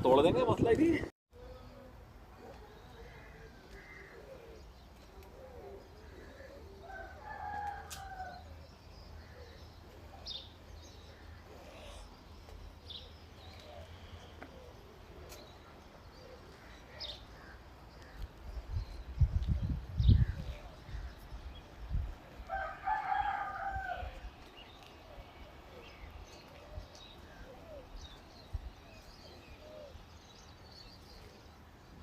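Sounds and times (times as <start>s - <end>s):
birds calling: 0.0s - 31.8s.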